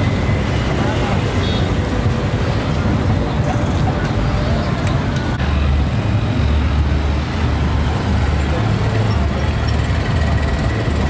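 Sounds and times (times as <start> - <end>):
deep vehicle engine rumble: 0.0 - 11.0
street traffic rumble: 0.0 - 11.0.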